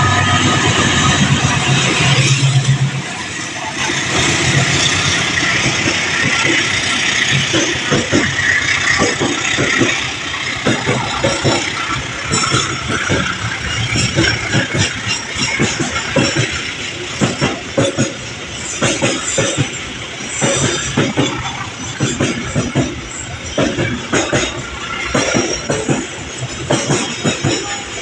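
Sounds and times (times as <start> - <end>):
train knocking and clattering: 0.0 - 28.0.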